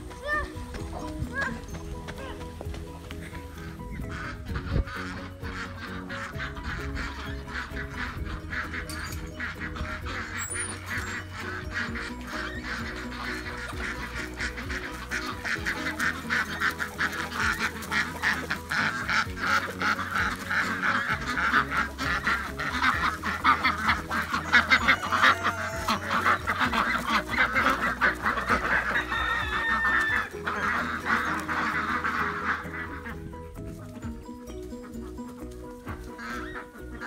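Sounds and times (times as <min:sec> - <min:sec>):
background music: 0:00.0 - 0:37.0
ducks quacking: 0:00.0 - 0:37.0.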